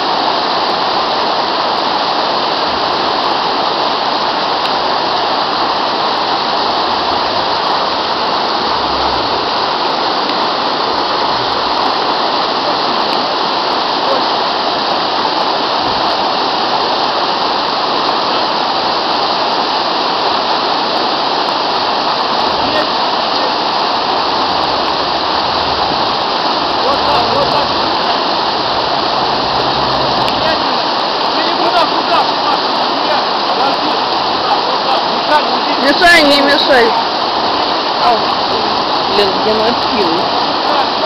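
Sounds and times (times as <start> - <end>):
river rushing over rocks: 0.0 - 41.0.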